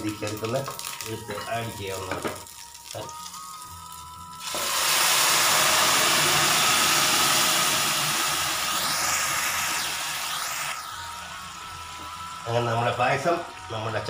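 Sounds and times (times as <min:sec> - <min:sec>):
hot ghee sizzling: 0:00.0 - 0:14.0.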